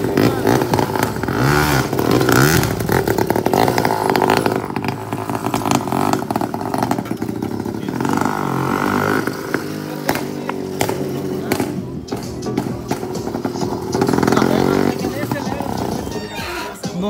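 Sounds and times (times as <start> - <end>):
small engine revving: 0.0 - 16.3.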